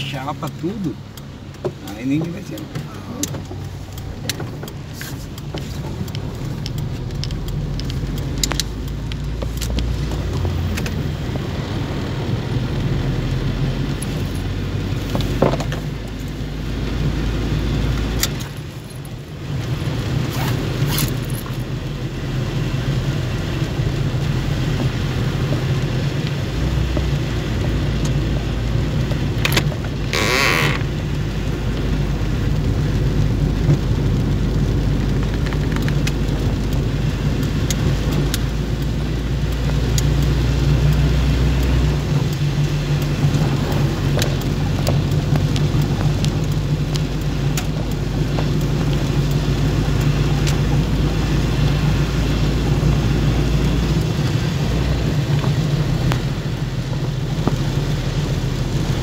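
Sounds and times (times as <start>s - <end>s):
engine and road hum: 0.0s - 59.0s
rain hissing on windshield: 0.0s - 59.0s.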